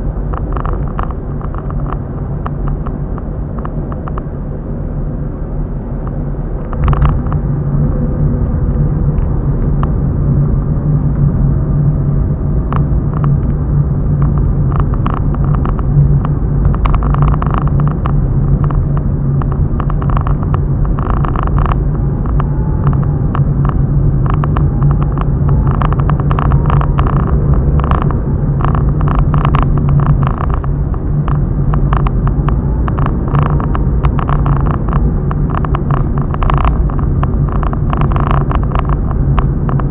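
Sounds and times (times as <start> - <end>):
car engine and road hum: 0.0 - 39.9.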